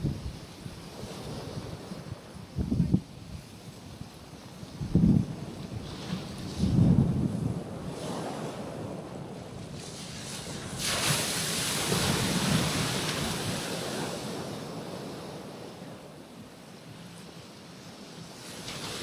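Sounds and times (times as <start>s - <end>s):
wind buffeting microphone: 0.0s - 15.8s
ocean waves on rocky shore: 0.0s - 19.0s.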